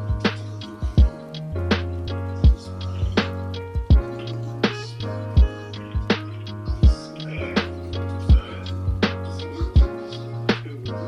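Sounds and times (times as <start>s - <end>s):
hip-hop beat music: 0.0s - 11.0s.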